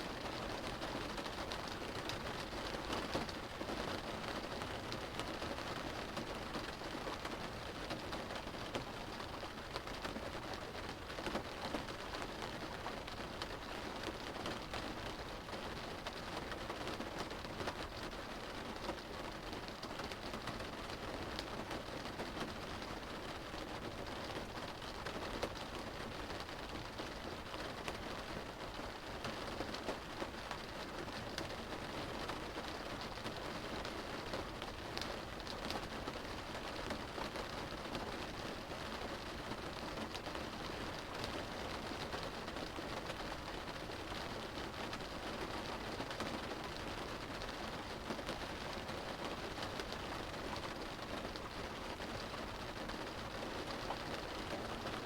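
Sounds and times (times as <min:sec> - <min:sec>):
rain on car roof and windows: 0:00.0 - 0:55.0.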